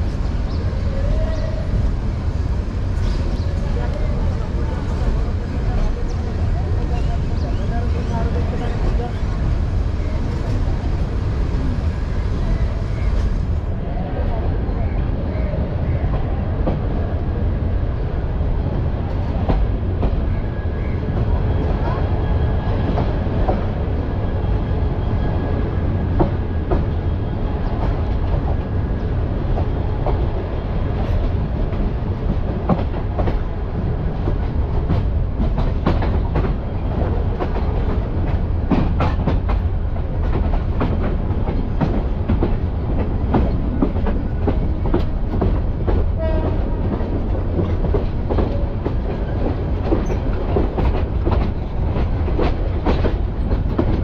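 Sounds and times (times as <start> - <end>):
train low rumble: 0.0 - 54.0
clickety-clack of train wheels: 2.9 - 11.7, 16.0 - 17.0, 18.4 - 54.0.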